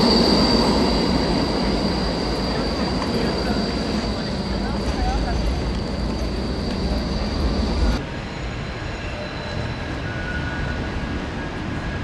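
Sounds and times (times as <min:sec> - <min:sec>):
tram on track: 0:00.0 - 0:12.0
tram rumble: 0:00.0 - 0:12.0.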